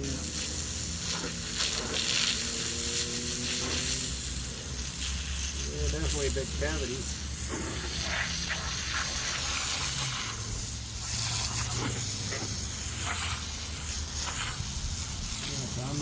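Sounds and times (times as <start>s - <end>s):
constant hiss: 0.0s - 16.0s
engine running: 0.0s - 16.0s.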